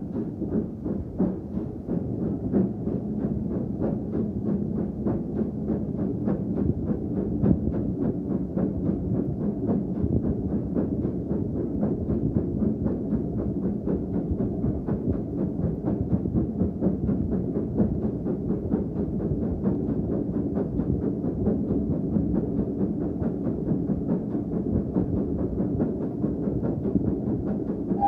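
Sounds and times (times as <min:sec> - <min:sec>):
steam train chugging: 0:00.0 - 0:28.0.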